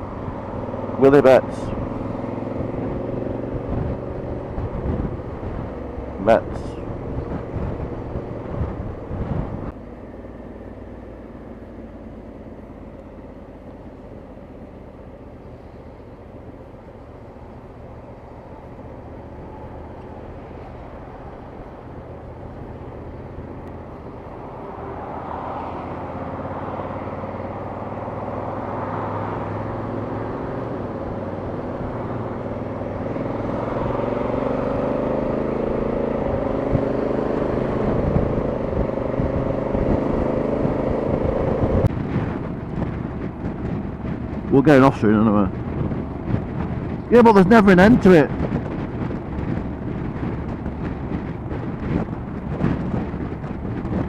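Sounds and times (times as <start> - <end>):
motorcycle engine: 0.0 - 54.0
road noise: 0.0 - 54.0.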